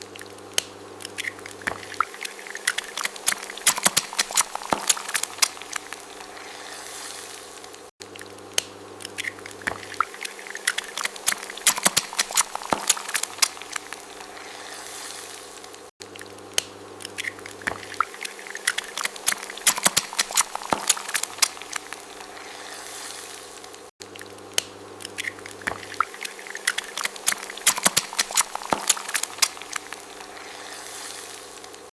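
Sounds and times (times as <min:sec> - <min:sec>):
egg frying in hot oil: 0:00.0 - 0:31.9.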